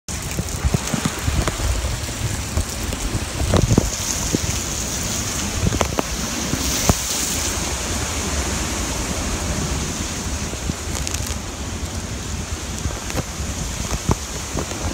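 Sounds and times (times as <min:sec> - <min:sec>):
heavy rain hiss: 0:00.1 - 0:14.9
wind gusts buffeting microphone: 0:00.1 - 0:14.9.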